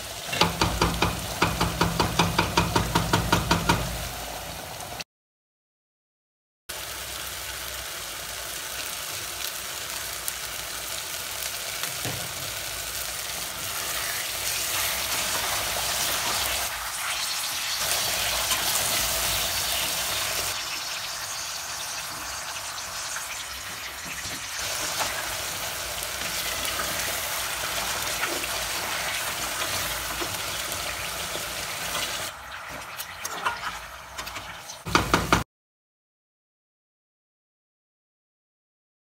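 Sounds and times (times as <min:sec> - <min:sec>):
food deep-frying in hot oil: 0:00.0 - 0:05.0, 0:06.7 - 0:35.4.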